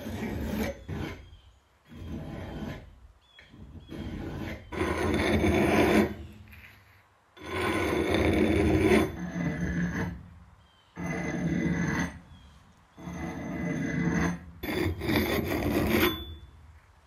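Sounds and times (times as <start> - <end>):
file rasping on steel: 0.0 - 6.4, 7.4 - 10.3, 10.9 - 16.4.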